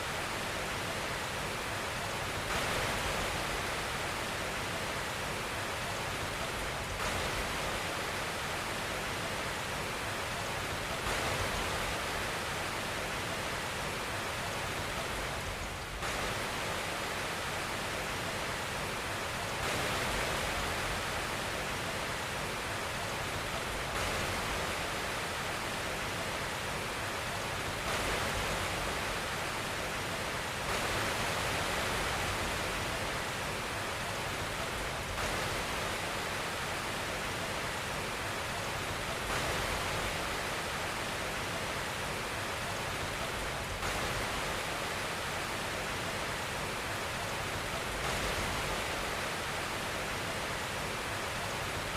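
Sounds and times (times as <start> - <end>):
white noise hiss: 0.0 - 51.9.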